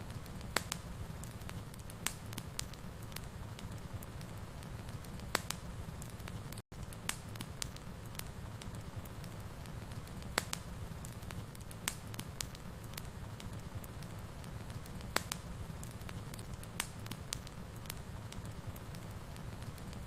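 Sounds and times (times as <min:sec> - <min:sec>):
wood fire burning: 0:00.0 - 0:20.0.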